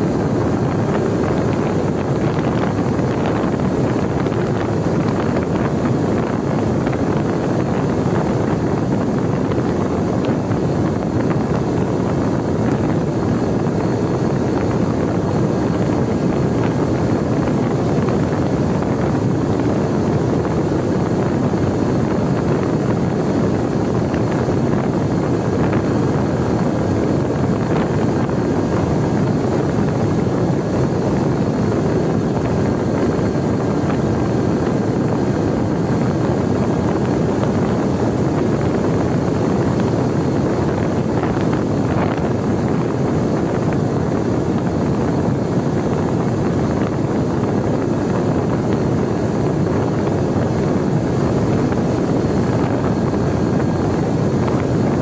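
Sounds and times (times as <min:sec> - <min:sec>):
airflow rush over microphone: 0:00.0 - 0:55.0.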